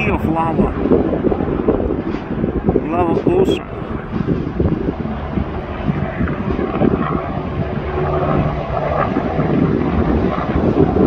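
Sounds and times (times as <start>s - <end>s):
aircraft engine drone: 0.0s - 11.0s
wind rumbling on microphone: 0.0s - 11.0s.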